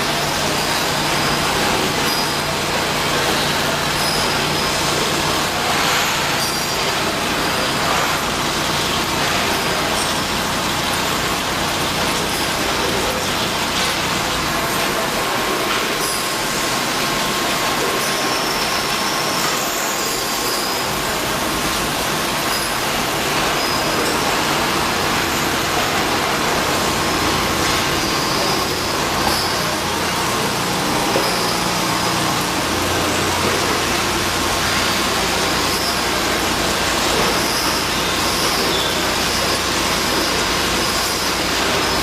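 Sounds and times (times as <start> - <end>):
steady mechanical running noise: 0.0 - 42.0.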